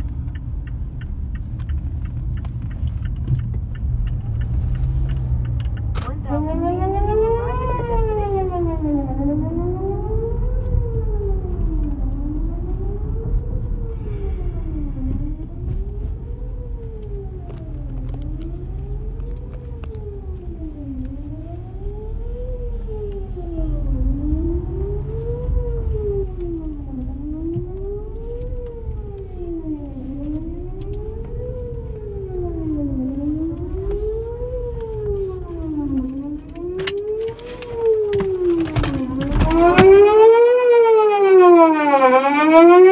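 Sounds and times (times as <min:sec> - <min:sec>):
low rumble: 0:00.0 - 0:37.2
warning siren wailing: 0:05.8 - 0:42.9.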